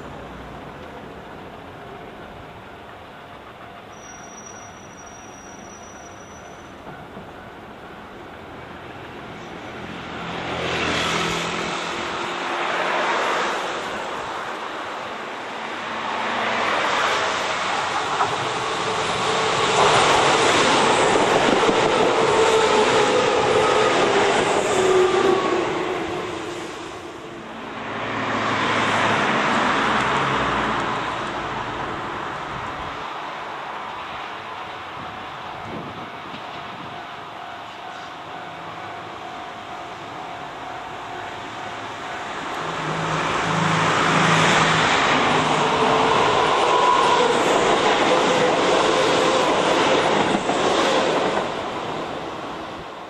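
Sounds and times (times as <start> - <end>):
electric train passing: 0.0 - 53.0.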